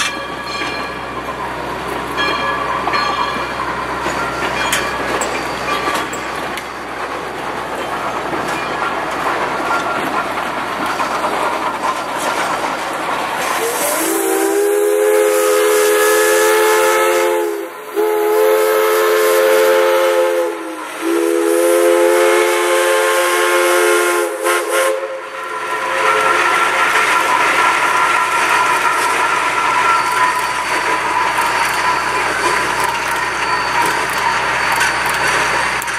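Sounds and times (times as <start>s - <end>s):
steam locomotive chime whistle: 0.0s - 7.0s, 13.6s - 35.9s
train cars rolling on rails: 0.0s - 35.9s.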